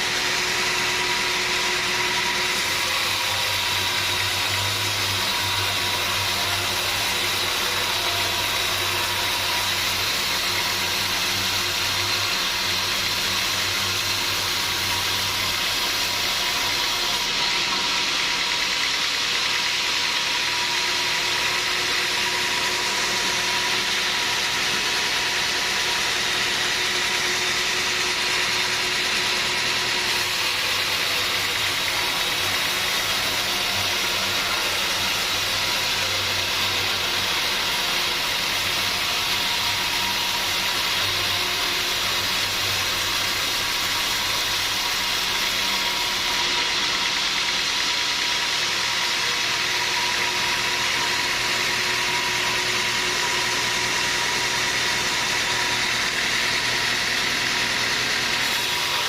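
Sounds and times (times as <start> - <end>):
high steady whine: 0.0 - 48.6
sawmill machinery running: 0.0 - 59.0.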